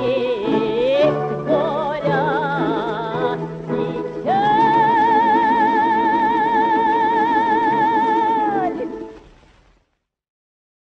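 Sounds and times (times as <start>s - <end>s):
woman singing high note: 0.0s - 9.0s.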